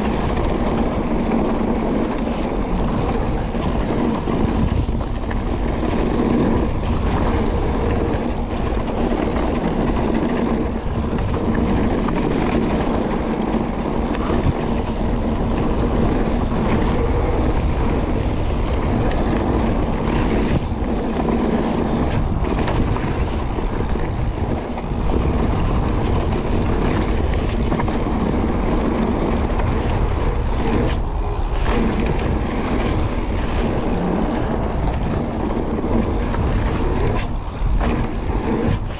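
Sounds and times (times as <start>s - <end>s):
bike knocks and rattles: 0.0s - 38.9s
tyres rumbling on dirt: 0.0s - 38.9s
wind rushing on microphone: 0.0s - 38.9s.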